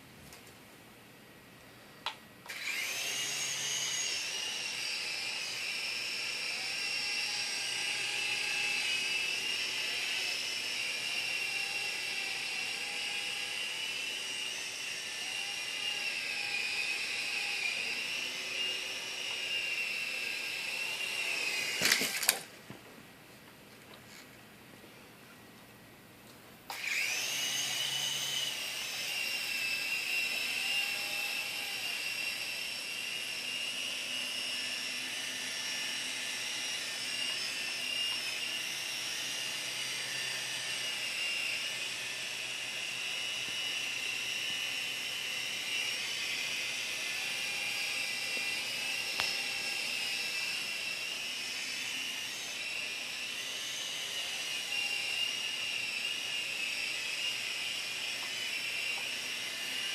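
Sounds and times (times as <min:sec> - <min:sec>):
rc helicopter motor whine: 0:02.5 - 0:22.5, 0:26.7 - 0:59.9.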